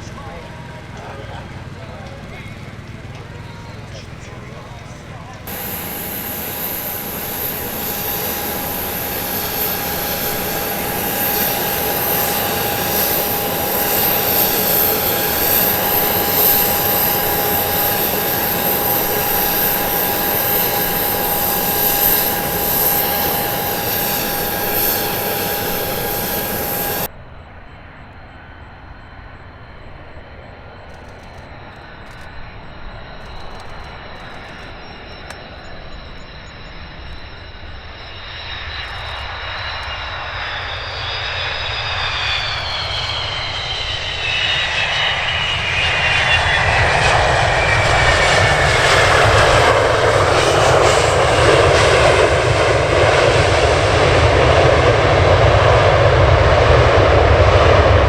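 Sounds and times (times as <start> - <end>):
aircraft engines roaring: 0.0 - 58.0
distant aircraft noise: 0.0 - 58.0
high engine whine: 0.0 - 58.0.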